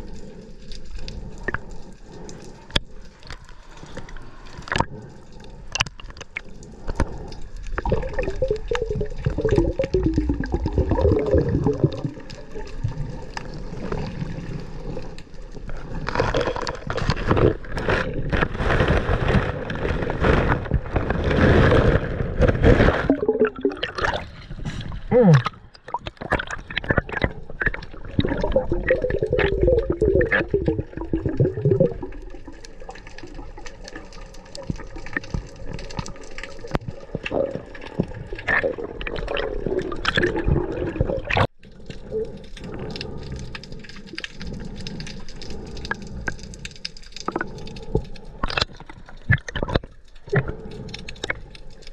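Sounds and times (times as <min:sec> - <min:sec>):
water gurgling and sloshing: 0:00.0 - 0:51.9.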